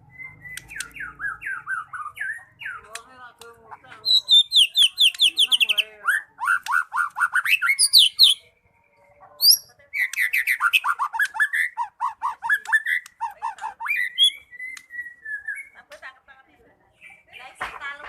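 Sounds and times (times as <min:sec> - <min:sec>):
bird singing whistled notes: 0:00.0 - 0:02.9, 0:04.0 - 0:15.8.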